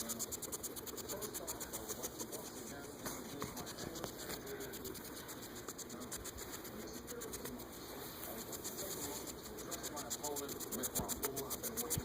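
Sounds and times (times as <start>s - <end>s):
hedgehog scratchy crackling: 0.0s - 12.0s.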